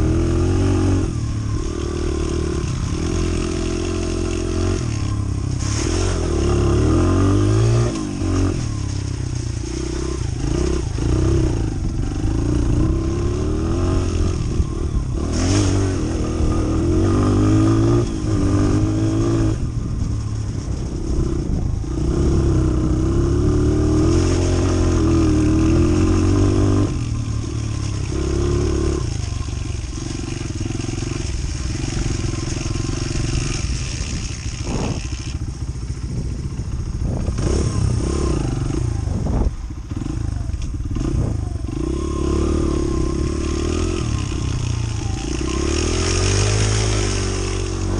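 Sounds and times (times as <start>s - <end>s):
dirt bike engine revving: 0.0s - 20.1s, 21.0s - 47.9s.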